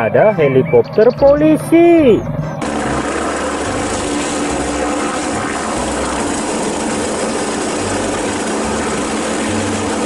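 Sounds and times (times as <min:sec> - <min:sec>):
steady hum: 0:00.0 - 0:10.0
helicopter turbine and rotor noise: 0:00.7 - 0:10.0.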